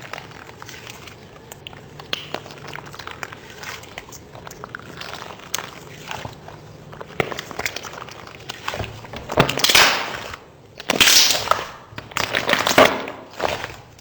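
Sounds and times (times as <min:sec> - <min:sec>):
slime crackling and popping: 0:00.0 - 0:14.0.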